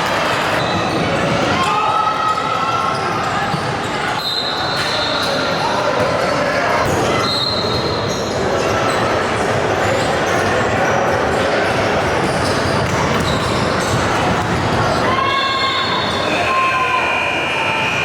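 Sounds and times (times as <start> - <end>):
crowd voices: 0.0 - 18.0.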